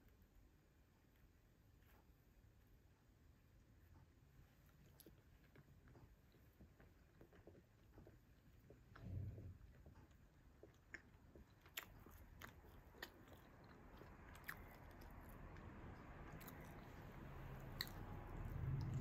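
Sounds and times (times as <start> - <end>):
low background hiss: 0.0 - 19.0.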